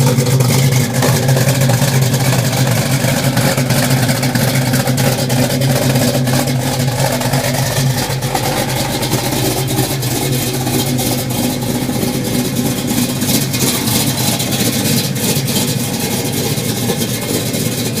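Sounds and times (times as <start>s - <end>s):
car engine running with ticking: 0.0s - 18.0s.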